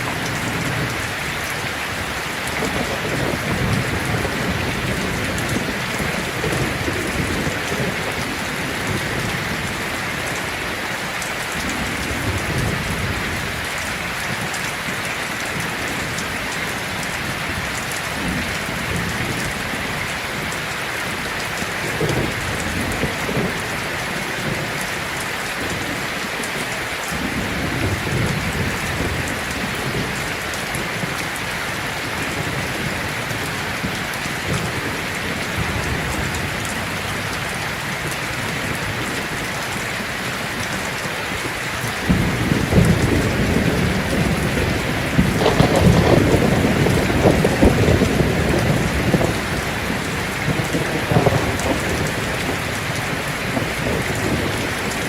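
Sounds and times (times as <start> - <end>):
heavy rain on a tin roof: 0.0 - 55.0
thunder rumbling: 0.0 - 55.0.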